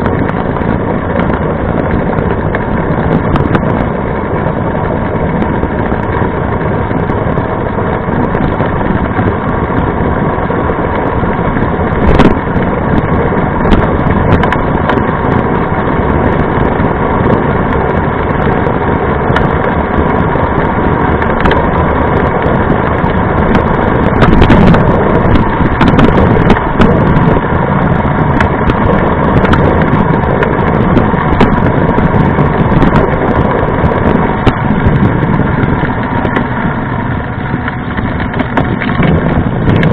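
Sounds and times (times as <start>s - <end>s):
bike tyres humming on asphalt: 0.0s - 39.9s
wind buffeting camera: 0.0s - 39.9s.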